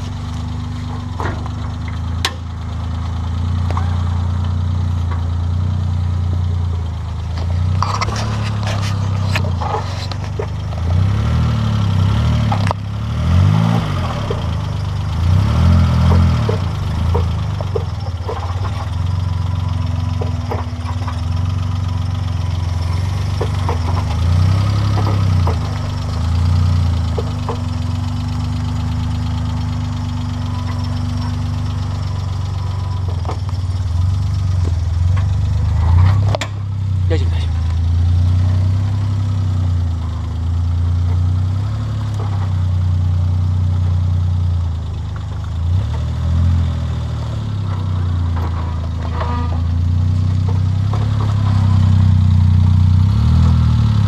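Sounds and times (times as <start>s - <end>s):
car engine running at low revs: 0.0s - 54.0s.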